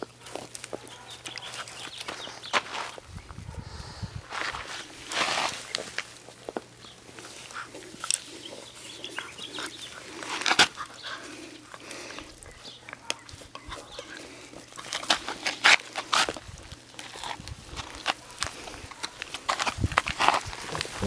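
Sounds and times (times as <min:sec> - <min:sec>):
dry leaves and twigs crackling: 0:00.0 - 0:03.5, 0:04.3 - 0:21.0.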